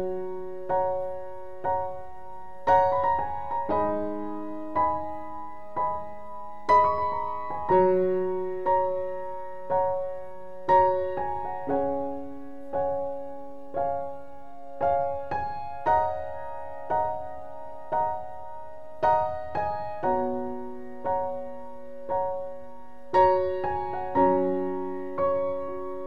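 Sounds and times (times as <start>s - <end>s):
soft piano chords: 0.0s - 26.0s.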